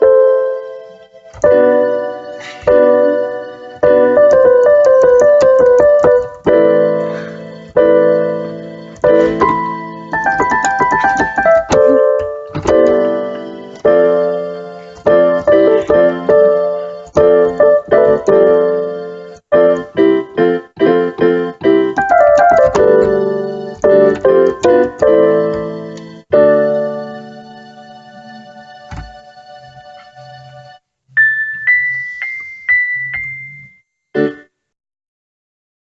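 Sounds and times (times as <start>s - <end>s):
keyboard chords: 0.0s - 34.6s.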